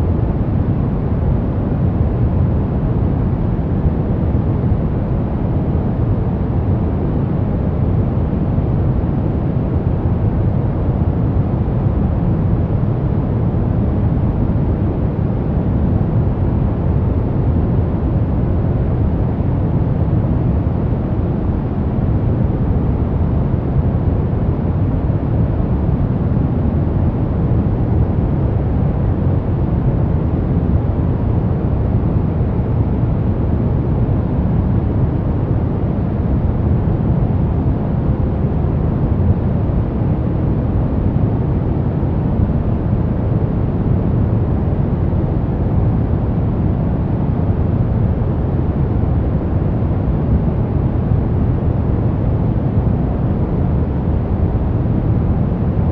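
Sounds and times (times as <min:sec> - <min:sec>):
deep white noise rush: 0:00.0 - 0:55.9.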